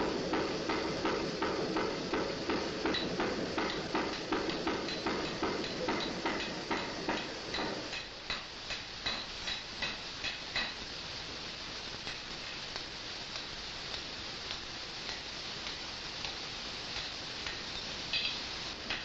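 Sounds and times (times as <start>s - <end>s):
trip hammer striking hot iron: 0.0s - 10.9s, 12.0s - 19.0s.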